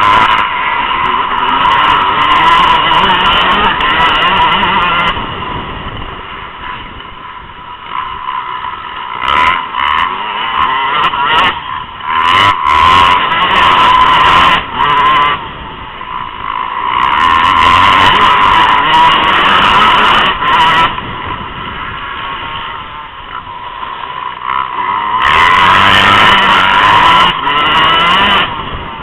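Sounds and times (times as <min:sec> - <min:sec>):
motocross bike engines revving: 0:00.0 - 0:29.0.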